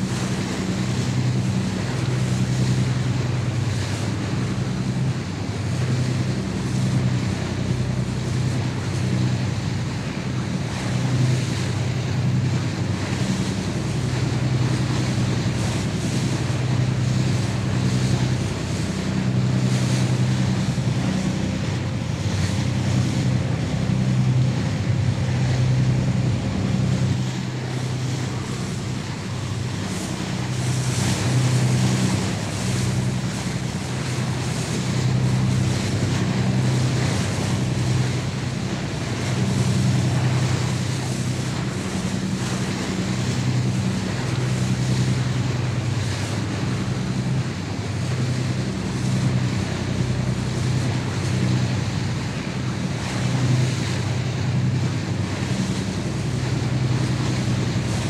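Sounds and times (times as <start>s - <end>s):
boat engine drone: 0.0s - 58.0s
waves washing: 0.0s - 58.0s.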